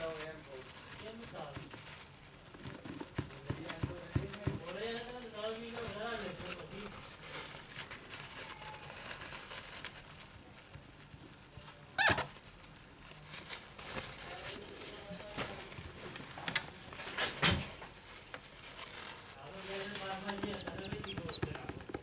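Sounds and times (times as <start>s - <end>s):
tissue rubbing on screen: 0.0s - 22.0s.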